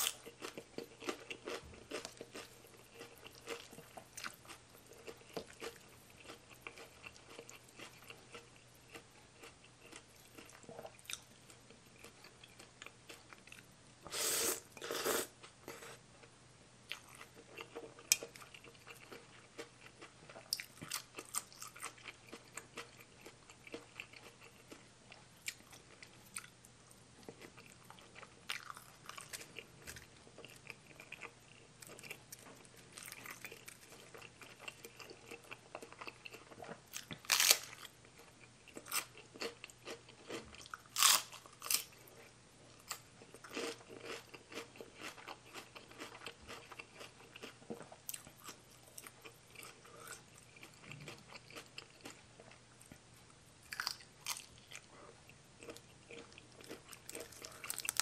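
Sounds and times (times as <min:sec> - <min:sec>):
chewing crunchy salad: 0:00.0 - 0:58.0.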